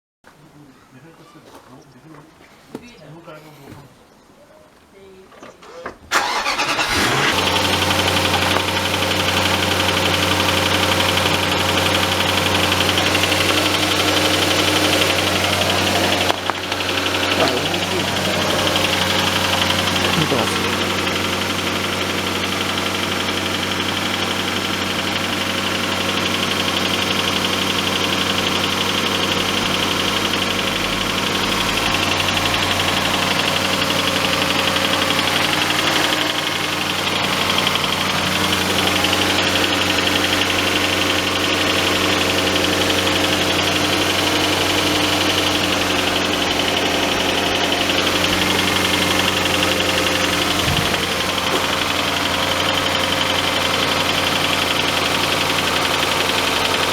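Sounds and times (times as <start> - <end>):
abnormal engine noise: 6.1 - 56.9
car engine running: 6.1 - 56.9.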